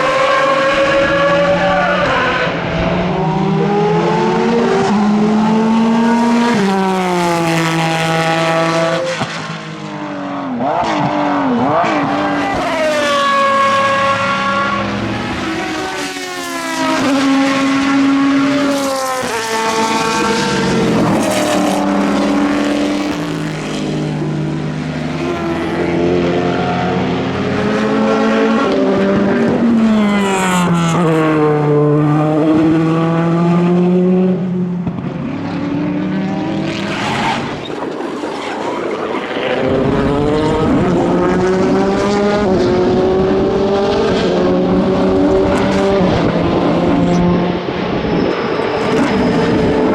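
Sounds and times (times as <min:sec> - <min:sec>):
racing car engines passing: 0:00.0 - 0:49.9.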